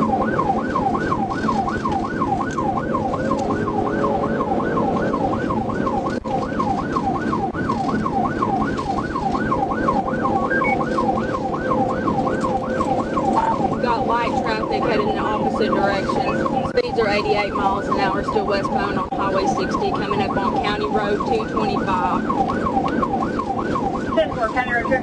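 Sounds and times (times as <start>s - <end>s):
engine and road noise: 0.0s - 25.0s
police siren yelping: 0.0s - 25.0s.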